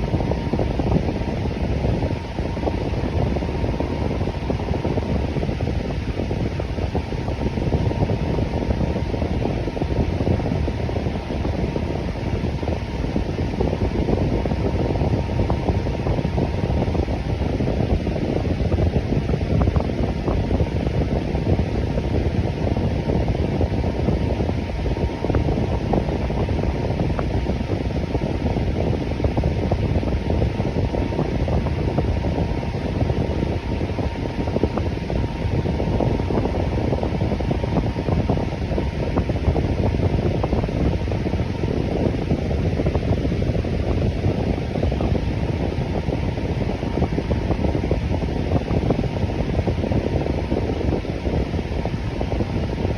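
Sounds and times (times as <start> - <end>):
electric fan whirring: 0.0 - 52.9
faint steady hum: 0.0 - 52.9.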